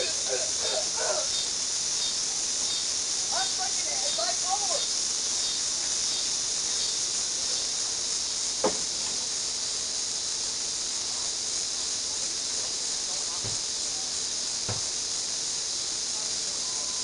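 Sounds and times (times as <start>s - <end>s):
high-pitched insect chorus: 0.0s - 17.0s
microphone hiss: 0.0s - 17.0s.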